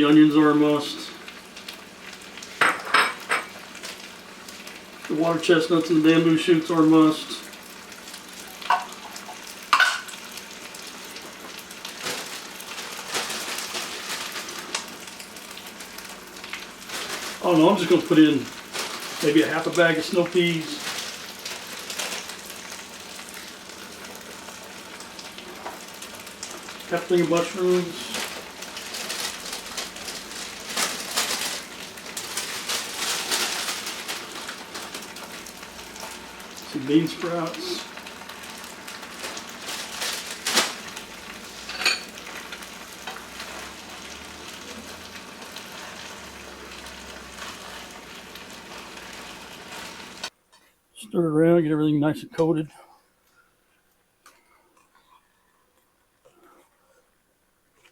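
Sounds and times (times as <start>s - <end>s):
vegetables sizzling in oil: 0.0s - 50.4s.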